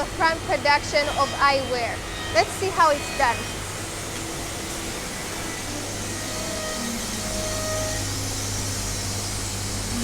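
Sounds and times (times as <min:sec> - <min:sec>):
milling machine humming and hissing: 0:00.0 - 0:10.0.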